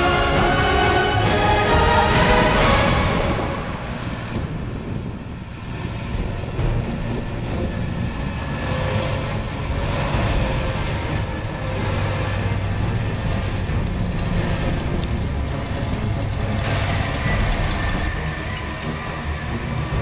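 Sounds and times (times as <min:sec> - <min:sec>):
diesel engine rumble: 0:00.0 - 0:20.0
music: 0:00.0 - 0:20.0
wind on microphone: 0:02.1 - 0:20.0.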